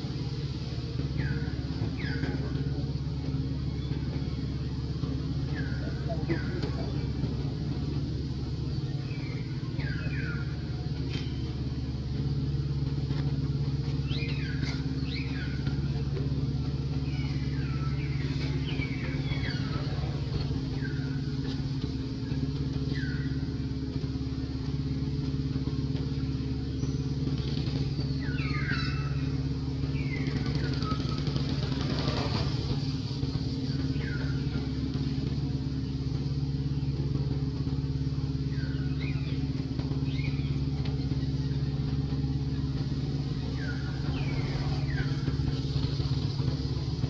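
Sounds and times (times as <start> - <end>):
low engine-like hum: 0.0 - 47.0.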